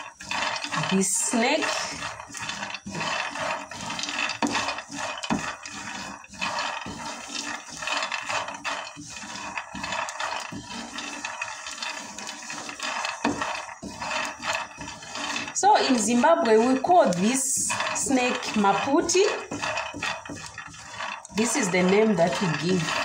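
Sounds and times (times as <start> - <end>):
kernels rattling in frying pan: 0.0 - 23.0.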